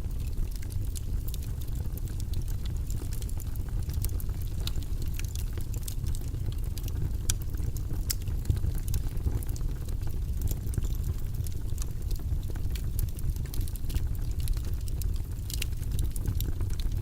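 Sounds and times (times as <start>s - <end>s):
low rumbling white noise: 0.0s - 17.0s.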